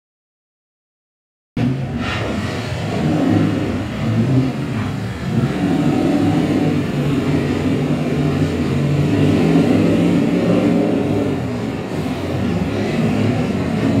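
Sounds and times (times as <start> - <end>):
race car engine under load: 1.6 - 14.0.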